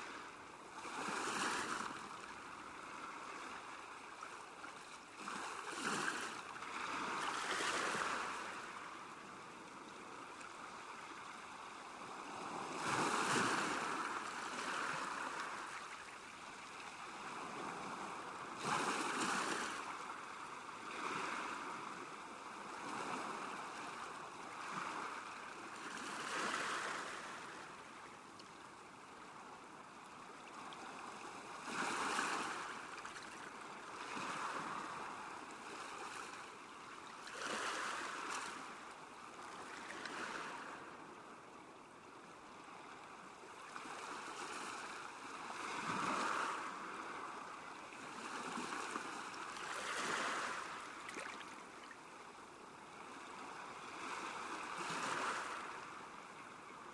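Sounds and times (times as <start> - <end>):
small waves lapping at shore: 0.0 - 56.9.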